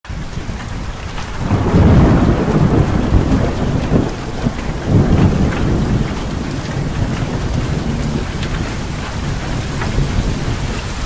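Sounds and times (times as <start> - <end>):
heavy rain: 0.1 - 11.0
thunder rumbling: 0.1 - 11.0.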